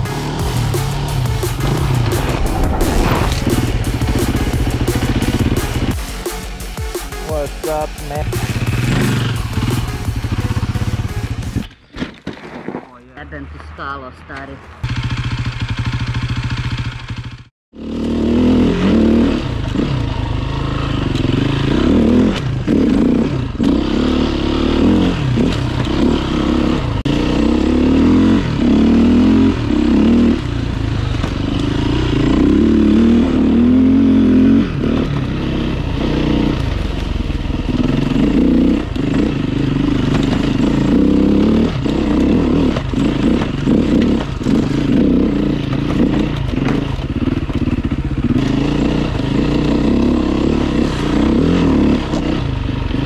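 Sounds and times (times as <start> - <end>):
motorbike engine revving: 0.0 - 6.0, 7.2 - 11.7, 14.8 - 53.0.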